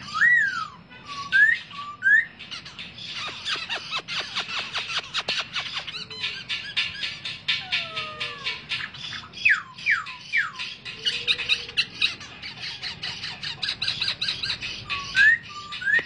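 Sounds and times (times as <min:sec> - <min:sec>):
birds harsh chattering: 0:00.0 - 0:16.0.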